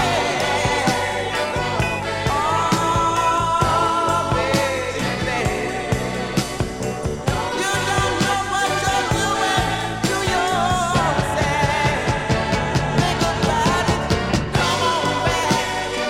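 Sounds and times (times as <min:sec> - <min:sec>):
bass: 0:00.0 - 0:16.0
drum beat: 0:00.0 - 0:16.0
person singing: 0:00.0 - 0:16.0.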